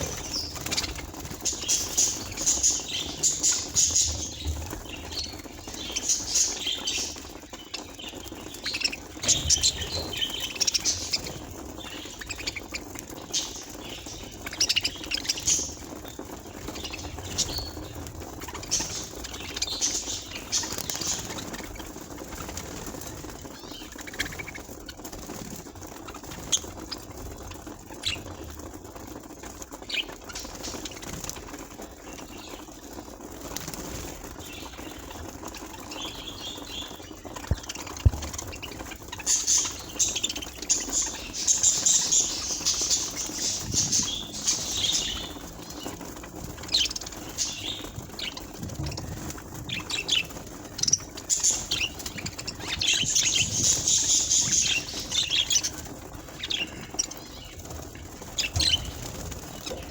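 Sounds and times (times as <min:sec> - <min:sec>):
budgerigars chirping and chattering: 0:00.0 - 0:59.9
steady background noise: 0:00.0 - 0:59.9.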